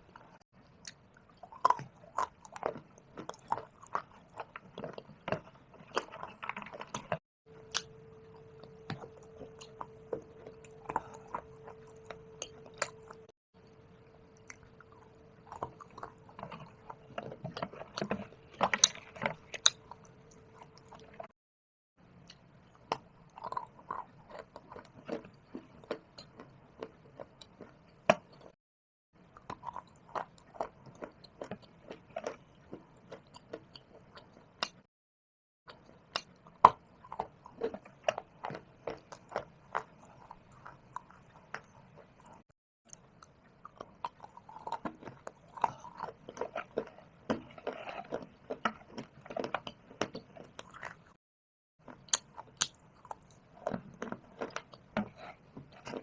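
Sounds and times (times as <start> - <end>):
crunching and chewing stone: 0.2 - 7.9, 8.6 - 13.3, 14.4 - 21.3, 22.2 - 28.6, 29.3 - 34.8, 35.7 - 51.2, 51.8 - 56.0.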